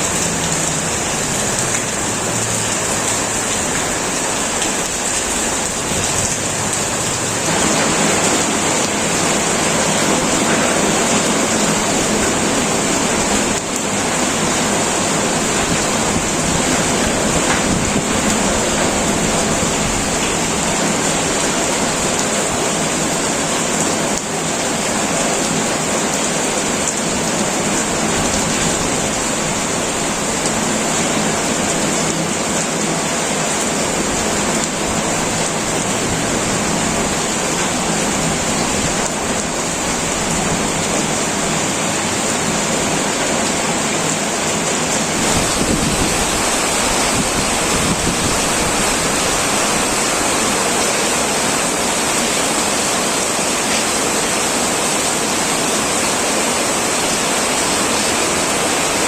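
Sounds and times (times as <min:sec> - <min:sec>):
heavy rain on a metal roof: 0:00.0 - 0:59.0.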